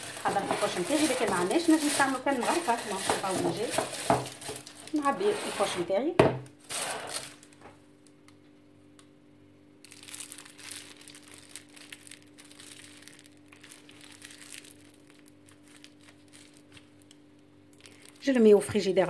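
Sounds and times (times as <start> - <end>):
plastic bag crinkling: 0.0 - 5.8, 6.6 - 7.8, 9.8 - 19.0.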